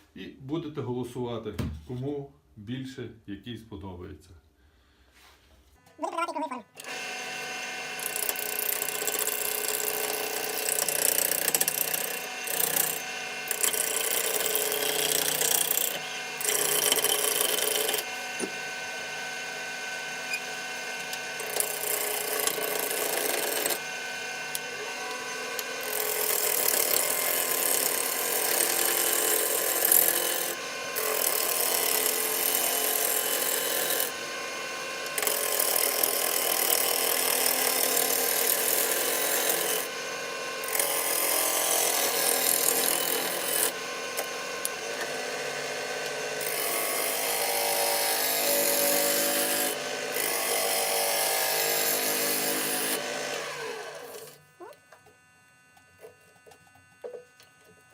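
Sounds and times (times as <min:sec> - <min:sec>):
turning tool cutting wood: 0:06.0 - 0:57.9
lathe humming: 0:06.8 - 0:57.7.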